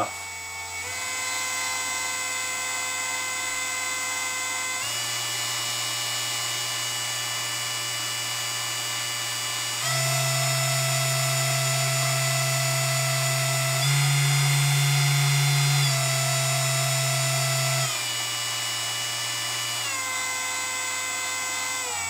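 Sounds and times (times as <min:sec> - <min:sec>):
spindle motor whining: 0:00.0 - 0:06.4, 0:09.8 - 0:22.0.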